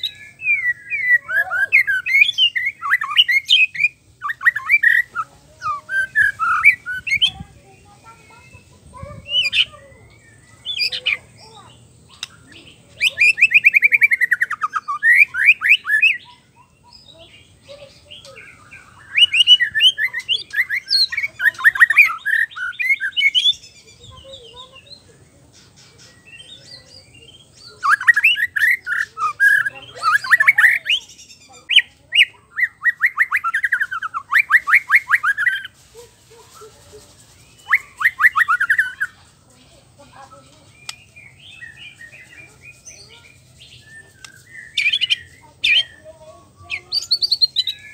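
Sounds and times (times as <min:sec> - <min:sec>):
bird singing whistled phrases: 0:00.0 - 0:07.5, 0:08.4 - 0:25.1, 0:26.0 - 0:35.7, 0:37.4 - 0:39.2, 0:40.6 - 0:47.9.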